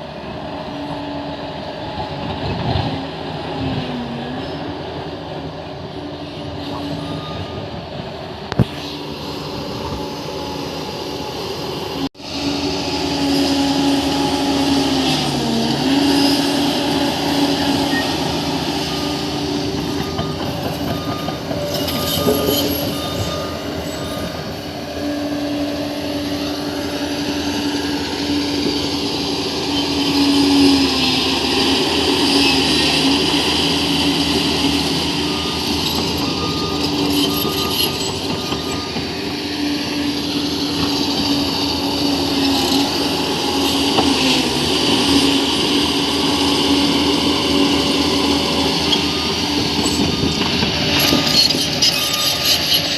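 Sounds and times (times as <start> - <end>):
diesel engine running under load: 0.0 - 52.9
steel tracks squealing and clattering: 0.0 - 52.9.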